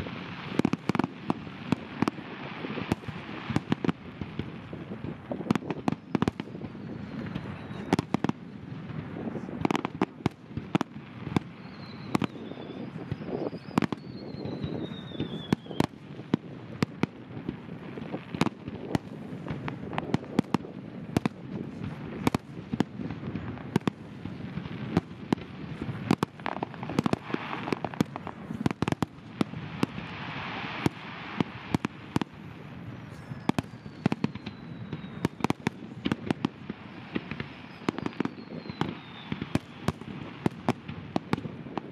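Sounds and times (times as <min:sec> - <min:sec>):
falling firework whistles: 0:00.0 - 0:08.7, 0:09.6 - 0:17.0, 0:22.2 - 0:41.9
firework bangs: 0:00.0 - 0:41.9.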